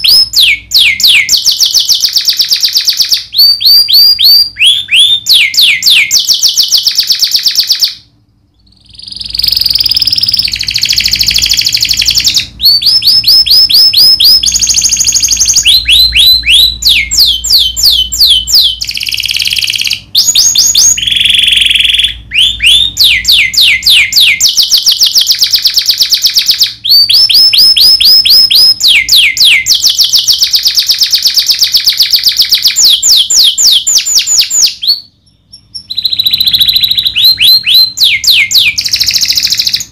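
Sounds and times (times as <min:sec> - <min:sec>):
canary singing in fast trills: 0:00.0 - 0:39.9.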